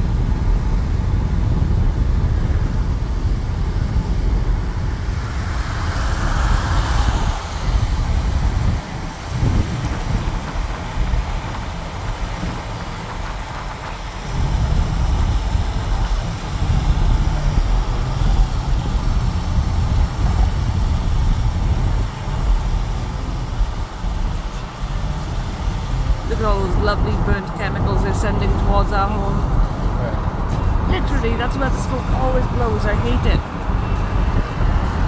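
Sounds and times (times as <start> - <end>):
gusty storm wind: 0.0 - 35.0
vehicle noise from inside car: 0.0 - 35.0.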